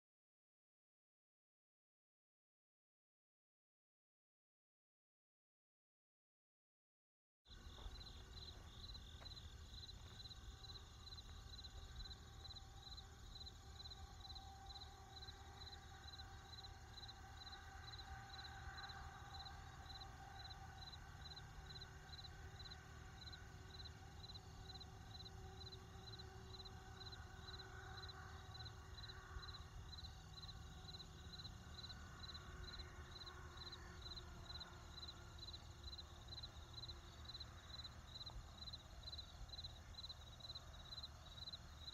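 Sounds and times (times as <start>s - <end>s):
crickets chirping: 7.5s - 41.9s.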